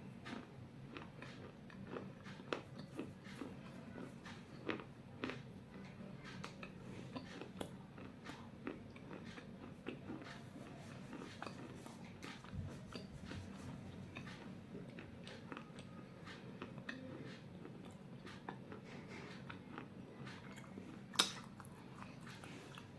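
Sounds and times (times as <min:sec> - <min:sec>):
crunching and chewing clay: 0:00.1 - 0:22.9.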